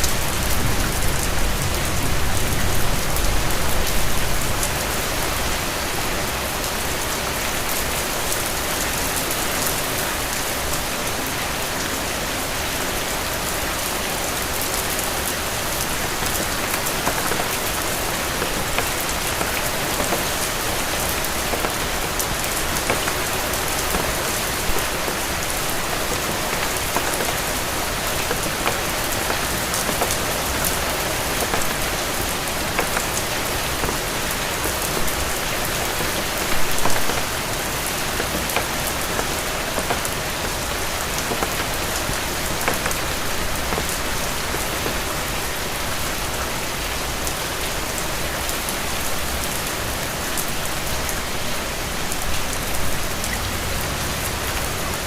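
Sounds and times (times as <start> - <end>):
rain on hard surface: 0.0 - 55.0.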